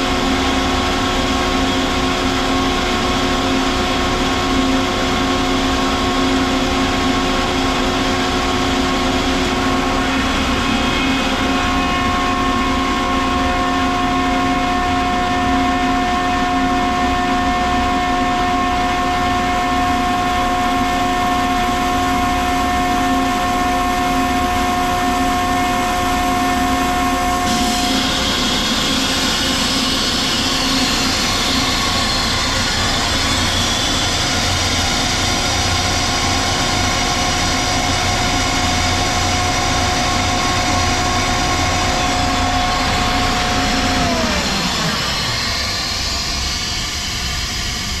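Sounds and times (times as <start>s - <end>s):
air compressor whine: 0.0s - 48.0s.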